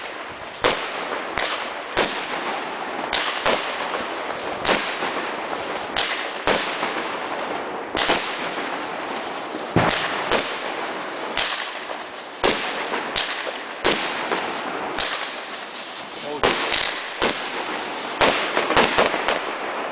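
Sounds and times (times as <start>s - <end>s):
firework bangs: 0.0s - 19.9s
fireworks crackle and hiss: 0.0s - 19.9s.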